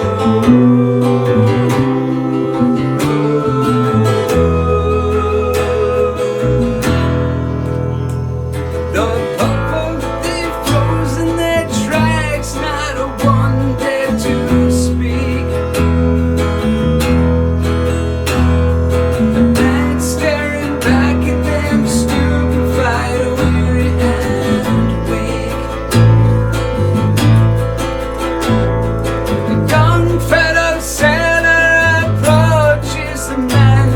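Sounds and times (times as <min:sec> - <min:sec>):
bass line: 0:00.0 - 0:33.9
strummed acoustic guitar: 0:00.0 - 0:33.9
wavering lead melody: 0:00.0 - 0:33.9.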